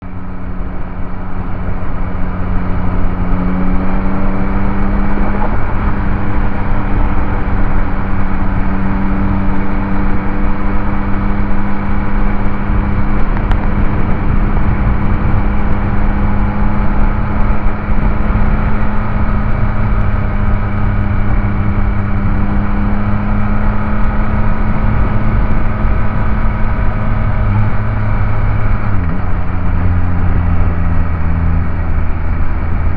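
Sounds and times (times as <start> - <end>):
motorcycle engine cruising: 0.0 - 32.9.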